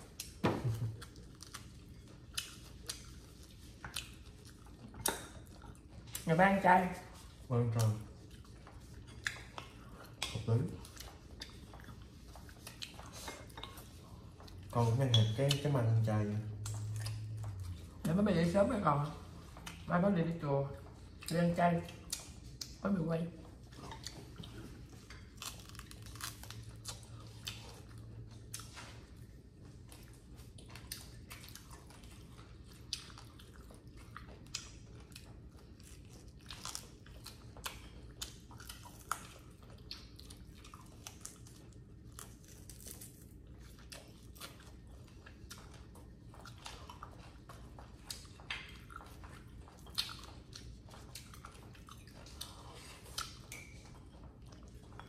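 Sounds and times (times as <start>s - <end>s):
chewing and biting meat: 0.0s - 19.9s, 20.7s - 22.8s, 23.4s - 55.0s.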